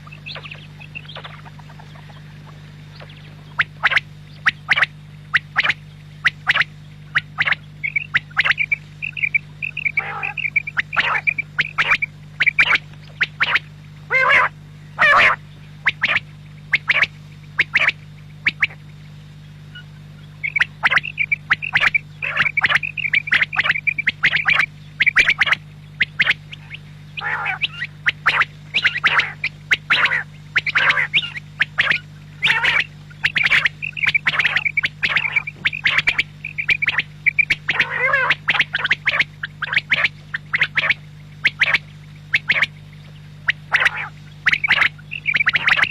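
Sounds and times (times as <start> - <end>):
low hum: 0.0 - 45.9
quail calling sharp clicky notes: 3.0 - 18.8, 20.4 - 42.7, 43.4 - 45.9.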